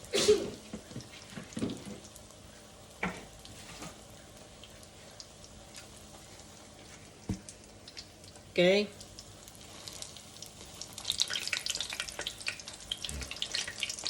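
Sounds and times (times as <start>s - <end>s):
hot oil crackling: 0.0s - 14.0s.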